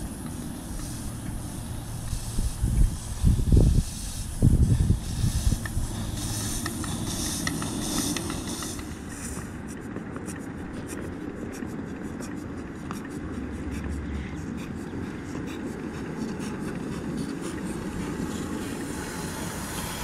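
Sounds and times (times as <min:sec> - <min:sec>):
faint rapid ticking: 0:00.0 - 0:20.0
steady low noise: 0:00.0 - 0:20.0
steam hissing: 0:00.0 - 0:20.0.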